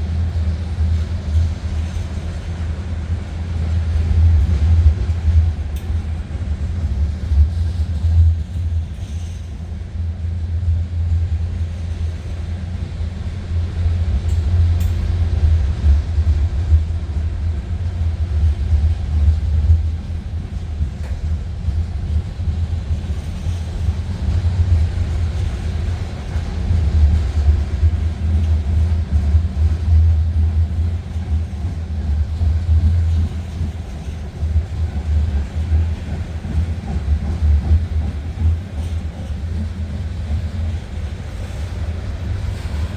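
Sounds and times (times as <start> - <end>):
freight train rumbling on rails: 0.0 - 42.9.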